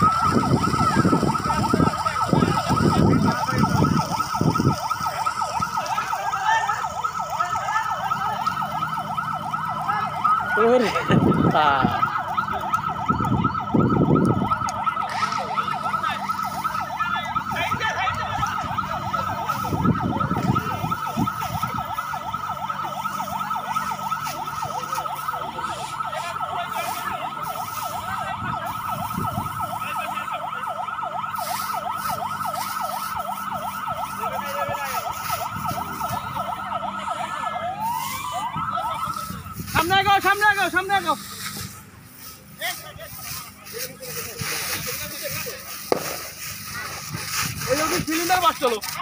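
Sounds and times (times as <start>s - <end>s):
fire engine siren warbling: 0.0s - 49.0s.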